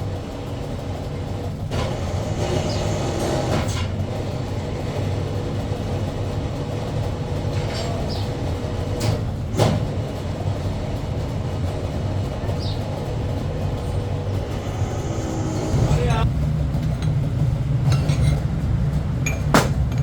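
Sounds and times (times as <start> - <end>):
factory machinery rumble and hum: 0.0 - 20.0.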